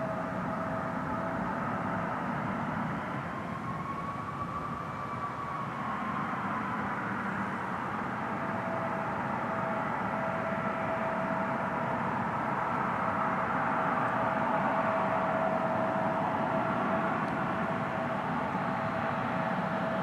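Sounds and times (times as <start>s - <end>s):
jet engines rumbling and whining: 0.0s - 20.0s
lower steady whine: 0.0s - 20.0s.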